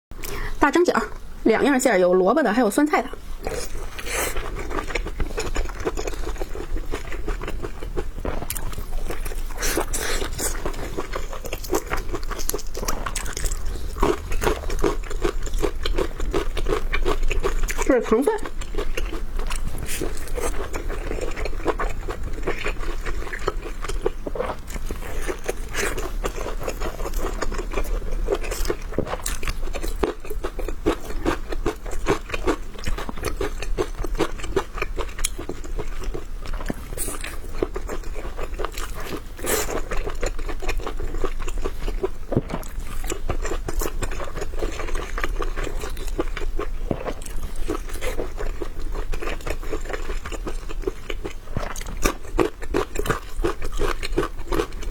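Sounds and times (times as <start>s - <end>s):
person biting and chewing: 3.4s - 17.9s, 18.5s - 54.9s.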